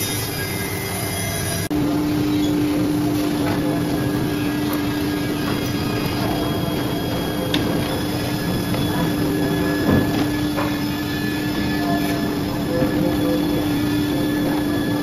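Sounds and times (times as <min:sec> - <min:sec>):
router machine droning: 0:00.0 - 0:15.0.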